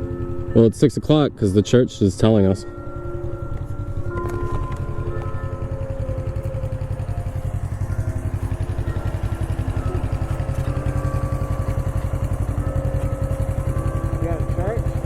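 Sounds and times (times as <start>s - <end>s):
faint church bells ringing: 0.0s - 15.0s
motorcycle engine idling: 0.0s - 15.0s.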